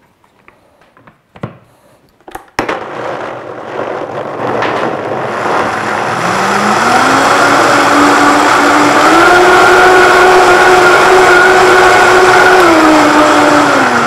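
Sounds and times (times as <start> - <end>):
blender motor churning: 2.7 - 14.0.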